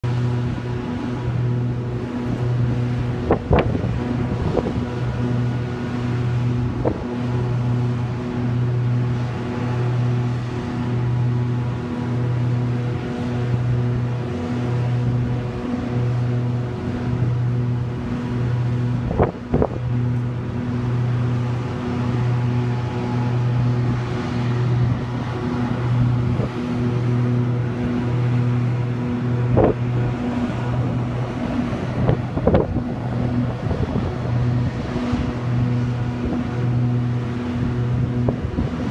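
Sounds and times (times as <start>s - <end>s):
diesel machinery droning: 0.0s - 38.9s
wind on microphone: 0.0s - 38.9s.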